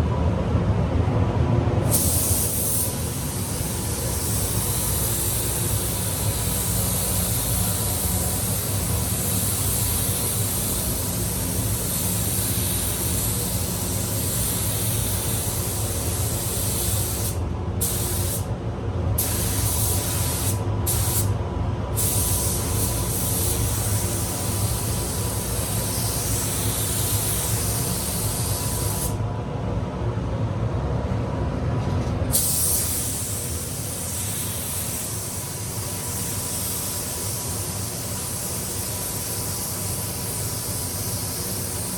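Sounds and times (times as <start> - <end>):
steady low hum: 0.0 - 41.9
paint spray gun hissing: 1.9 - 18.4, 19.2 - 21.3, 22.0 - 29.2, 32.3 - 41.9.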